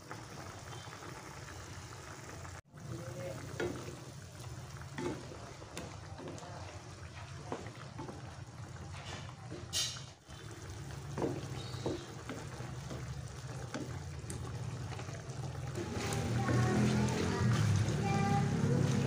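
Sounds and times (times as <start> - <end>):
spatula stirring bubbling sauce: 2.8 - 19.0.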